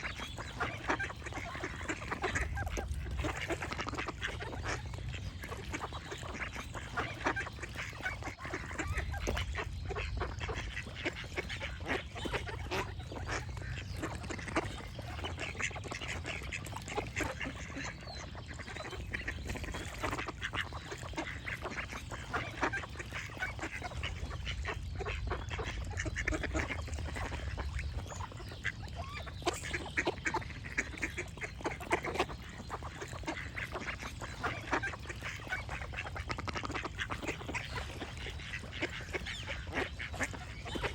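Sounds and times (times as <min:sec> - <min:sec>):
constant low rumble: 0:00.0 - 0:40.9
ducks quacking: 0:00.0 - 0:40.9.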